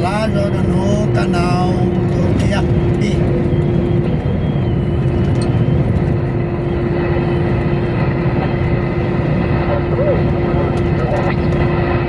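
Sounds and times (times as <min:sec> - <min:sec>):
road noise: 0:00.0 - 0:12.0
truck engine droning: 0:00.0 - 0:12.0.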